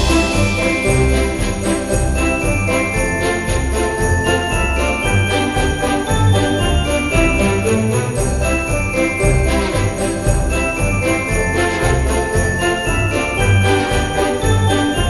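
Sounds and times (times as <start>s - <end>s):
festive holiday tune with sleigh bells: 0.0s - 15.0s.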